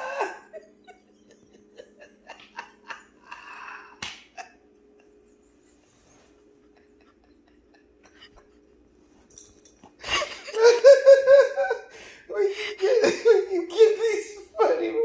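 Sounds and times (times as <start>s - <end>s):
stifled breathy laughter: 0.0s - 8.8s, 10.0s - 14.1s.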